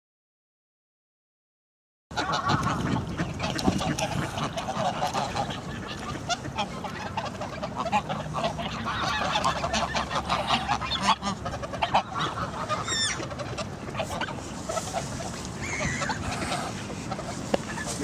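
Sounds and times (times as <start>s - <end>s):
ducks calling: 2.1s - 18.0s
geese honking: 2.1s - 18.0s.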